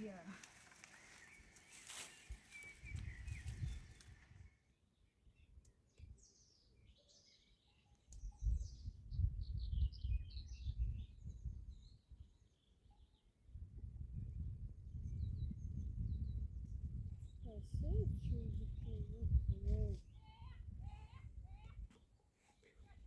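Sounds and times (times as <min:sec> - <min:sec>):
small birds chirping: 0:00.0 - 0:13.3, 0:15.0 - 0:23.0.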